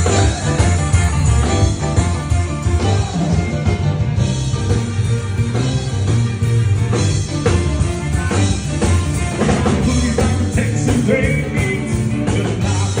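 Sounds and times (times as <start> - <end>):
drum kit: 0.0 - 13.0
live rock and roll band: 0.0 - 13.0.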